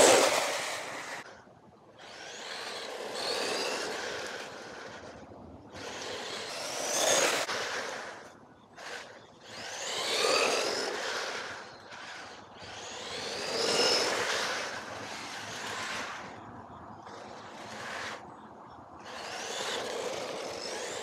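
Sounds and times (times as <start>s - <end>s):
rc car motor whining past: 0.0s - 21.0s.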